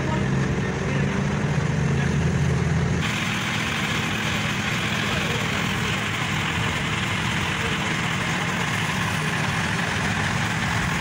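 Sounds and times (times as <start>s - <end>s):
diesel engine humming: 0.0s - 11.0s
hissy engine noise: 0.0s - 11.0s.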